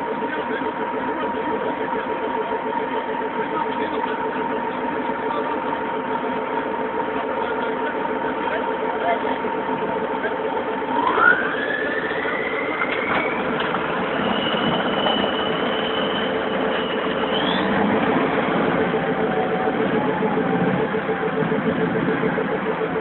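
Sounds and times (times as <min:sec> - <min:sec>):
diesel engine droning with whine: 0:00.0 - 0:23.0.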